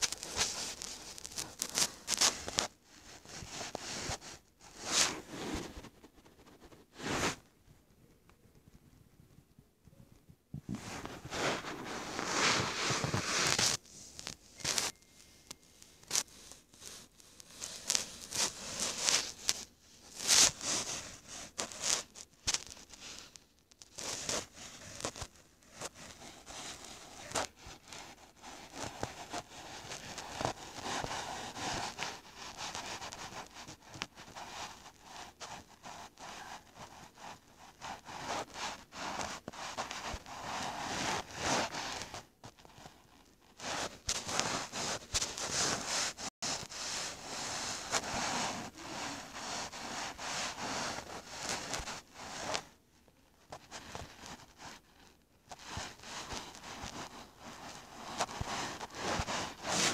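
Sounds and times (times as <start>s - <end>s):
fingertip rubbing on touchscreen: 0.0s - 7.5s, 10.6s - 42.9s, 43.6s - 52.7s, 53.5s - 59.9s.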